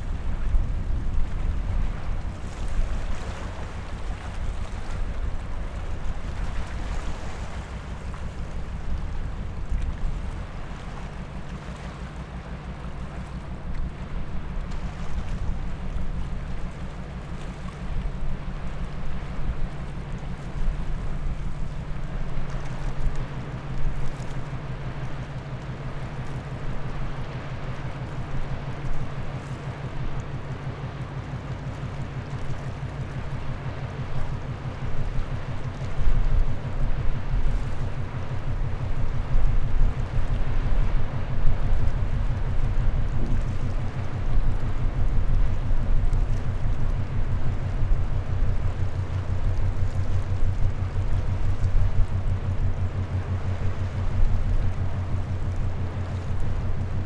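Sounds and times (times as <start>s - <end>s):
ship engine drone: 0.0s - 57.0s
water wash: 0.0s - 57.0s.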